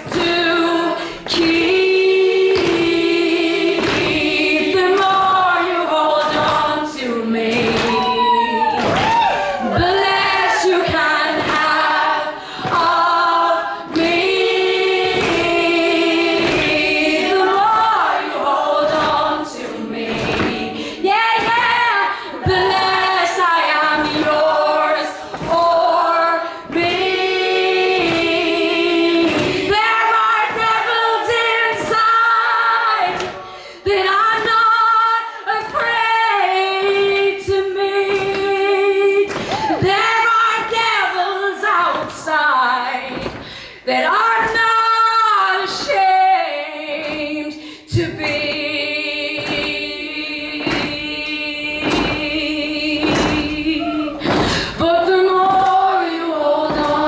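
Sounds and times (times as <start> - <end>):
a cappella harmony singing: 0.0 - 57.0.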